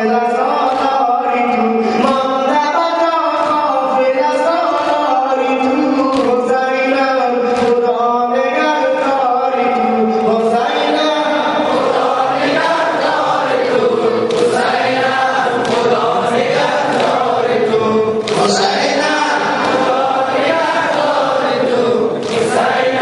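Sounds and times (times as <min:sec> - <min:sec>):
group singing a slow lament: 0:00.0 - 0:23.0.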